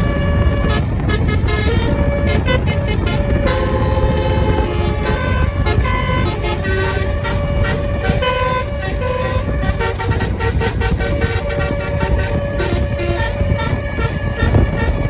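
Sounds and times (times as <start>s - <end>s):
bus engine rumble: 0.0s - 15.0s
multi-tone bus horn melody: 0.0s - 15.0s.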